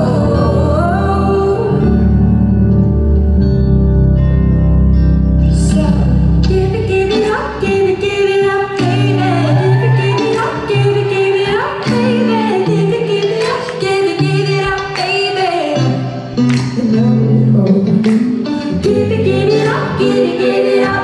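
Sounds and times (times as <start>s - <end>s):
woman singing into a microphone: 0.0s - 2.7s, 5.4s - 21.0s
live pop band playing: 0.0s - 21.0s.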